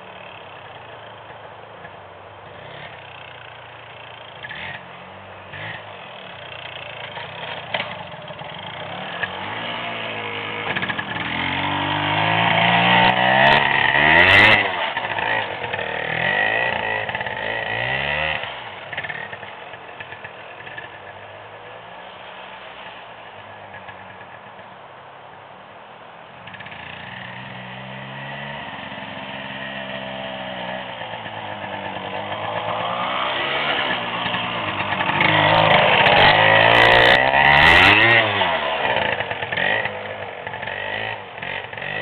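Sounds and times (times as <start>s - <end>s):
dirt bike engine revving: 2.4s - 21.2s, 26.4s - 42.0s.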